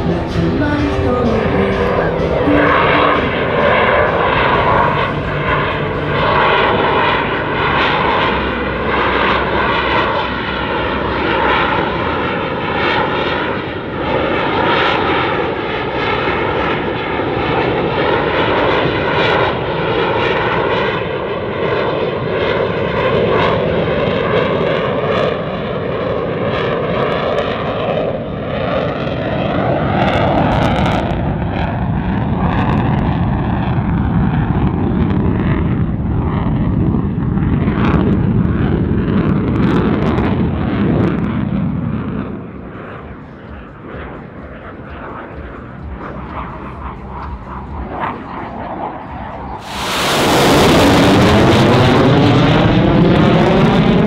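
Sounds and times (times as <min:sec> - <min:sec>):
jet engine noise: 0:00.0 - 0:54.0.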